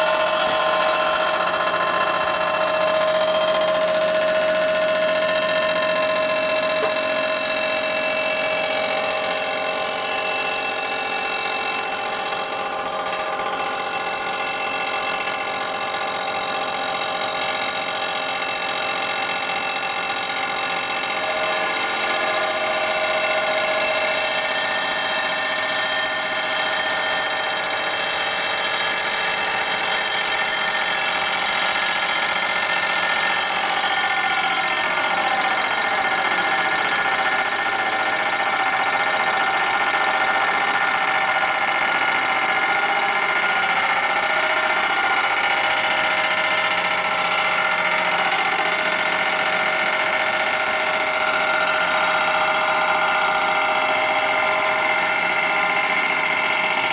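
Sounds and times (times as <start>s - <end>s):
machine tool whining: 0.0s - 56.9s.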